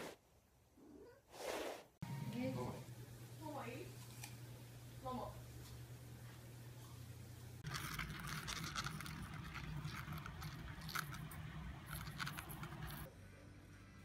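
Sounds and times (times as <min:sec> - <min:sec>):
low steady hum: 0:02.0 - 0:14.0.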